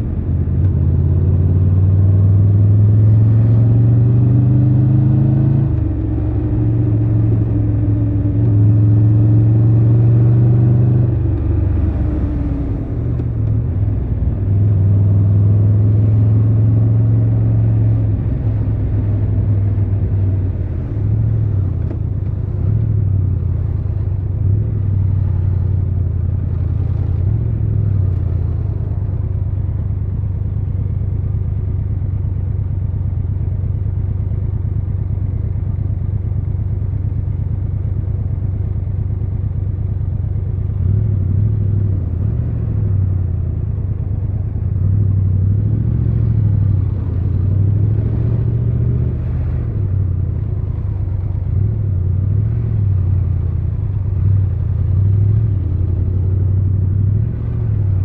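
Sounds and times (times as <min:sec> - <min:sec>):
motorcycle engine running: 0:05.7 - 0:58.0.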